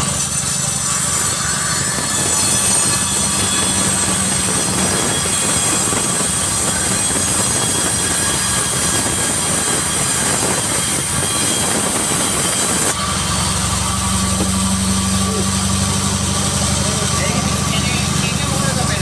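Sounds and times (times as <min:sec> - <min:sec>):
saw cutting through log: 0:00.0 - 0:19.0
saw drive humming: 0:00.0 - 0:19.0.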